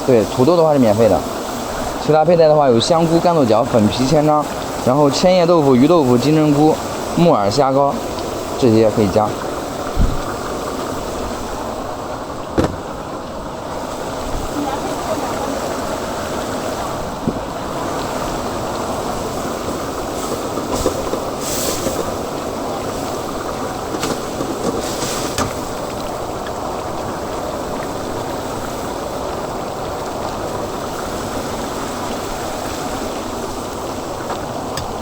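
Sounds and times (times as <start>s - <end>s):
stir-frying in woks: 0.0s - 11.8s, 13.7s - 35.0s.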